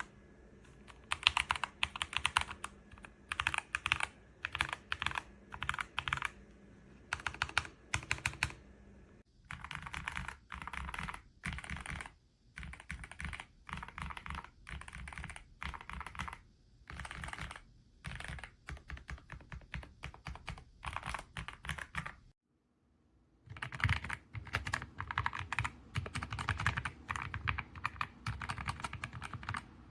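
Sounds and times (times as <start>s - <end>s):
mechanical keyboard clacking: 0.9s - 6.4s, 7.1s - 8.6s, 9.5s - 22.2s, 23.5s - 29.7s.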